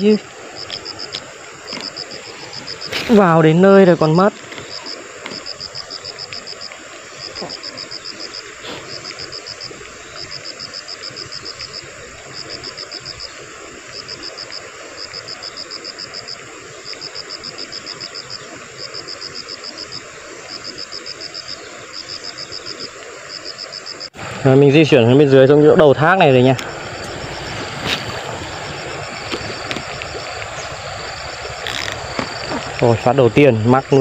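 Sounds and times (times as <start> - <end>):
steady rushing hiss: 0.0 - 34.0.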